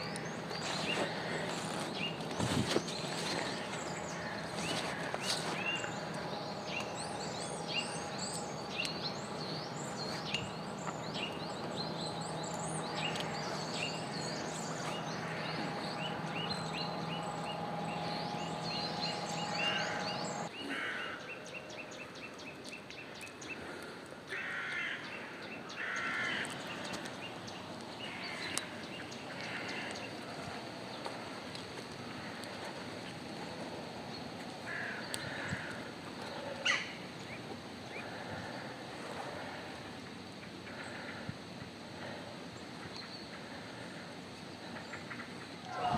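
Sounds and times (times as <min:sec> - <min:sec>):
steady low hum: 0:00.0 - 0:20.6, 0:25.3 - 0:45.9
harsh bird calls: 0:00.0 - 0:21.9, 0:24.3 - 0:45.9
small birds chirping: 0:00.0 - 0:23.7, 0:25.1 - 0:45.9.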